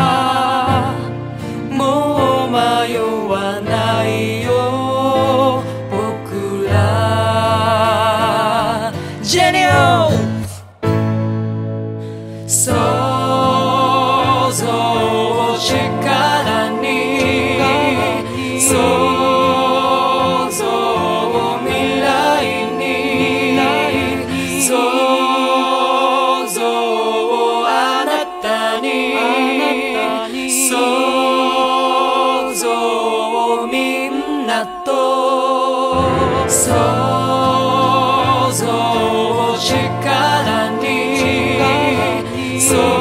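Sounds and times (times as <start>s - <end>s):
song with sung vocals: 0.0s - 10.8s, 12.3s - 43.0s.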